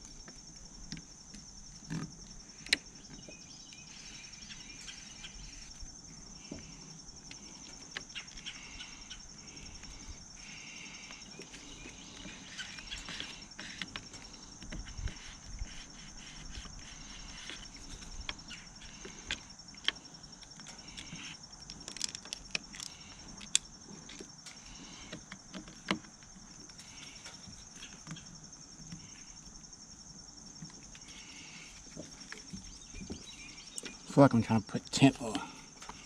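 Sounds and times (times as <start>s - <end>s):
high insect trill: 0.0s - 36.0s.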